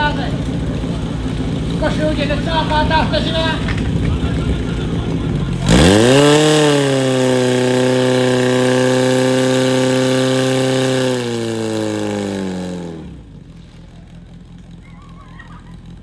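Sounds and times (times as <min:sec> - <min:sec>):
pump engine running at high revs: 0:00.0 - 0:16.0.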